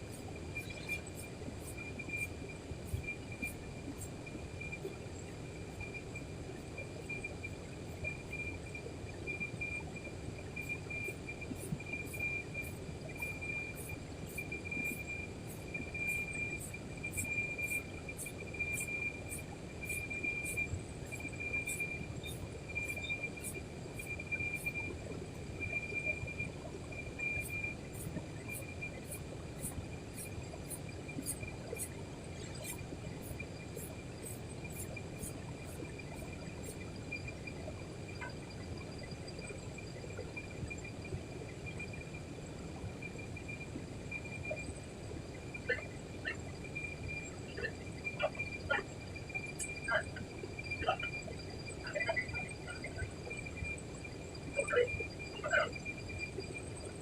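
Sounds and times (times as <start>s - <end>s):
insects trilling: 0.0s - 57.0s
low background noise: 0.0s - 57.0s.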